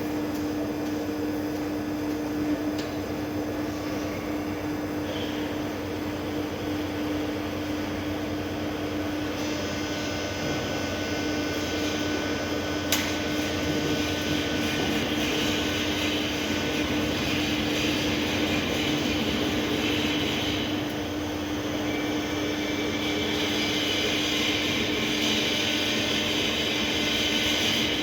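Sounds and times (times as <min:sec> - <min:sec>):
constant hum: 0:00.0 - 0:28.0.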